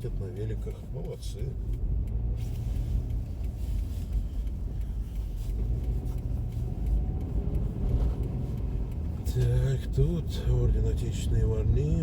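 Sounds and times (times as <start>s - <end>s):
car driving from inside: 0.0s - 12.0s.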